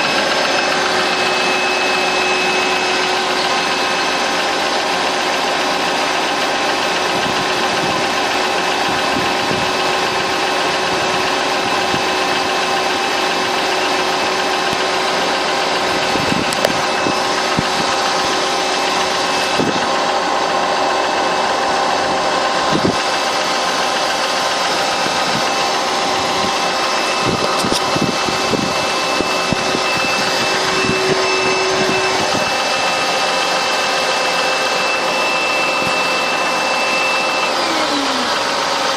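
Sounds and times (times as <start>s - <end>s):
engine running with knock: 0.0s - 38.9s.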